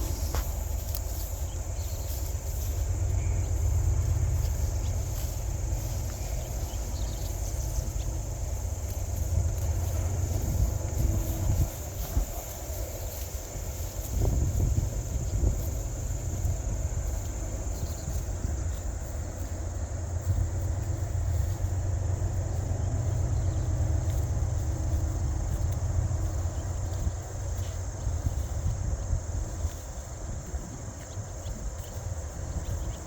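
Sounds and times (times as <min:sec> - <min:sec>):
low rumble: 0:00.0 - 0:29.8
crickets trilling: 0:00.0 - 0:33.0.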